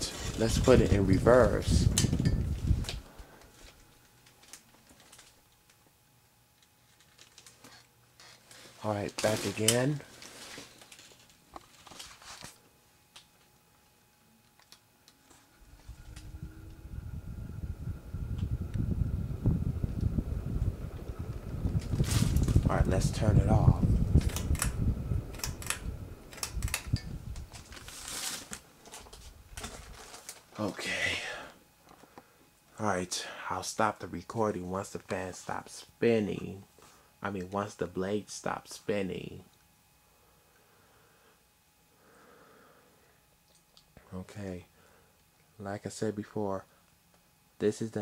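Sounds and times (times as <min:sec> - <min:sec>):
ceiling fan motor hum: 0:00.0 - 0:48.0.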